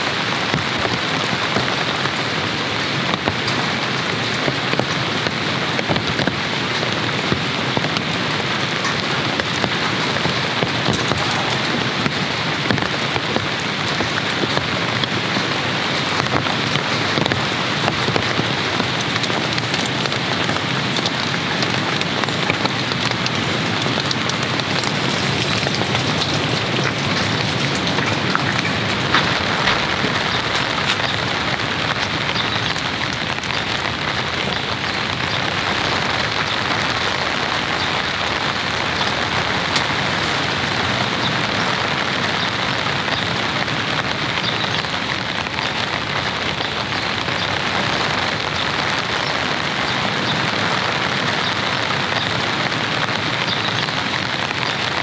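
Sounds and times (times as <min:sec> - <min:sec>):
sharp raindrop hits: 0:00.0 - 0:55.0
steady rain falling: 0:00.0 - 0:55.0.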